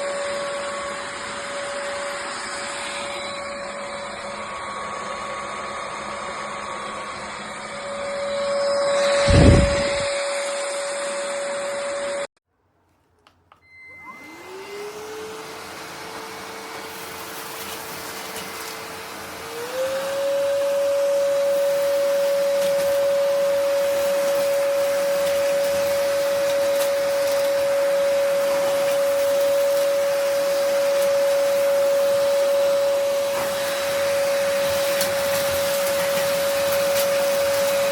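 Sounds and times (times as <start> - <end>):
stick vacuum whining: 0.0 - 12.3, 13.5 - 37.9.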